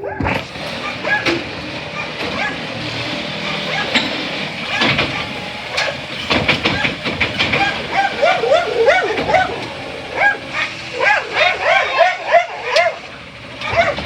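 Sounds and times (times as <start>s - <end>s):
dog barking: 0.0s - 14.0s
metal clanks and rattles: 0.2s - 14.0s.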